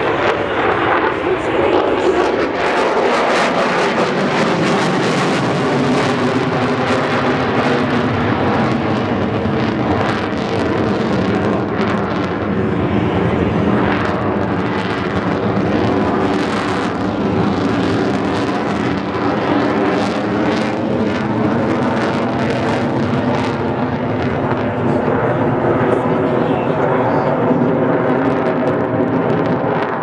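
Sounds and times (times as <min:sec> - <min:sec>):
jet engine thrust roar: 0:00.0 - 0:30.0.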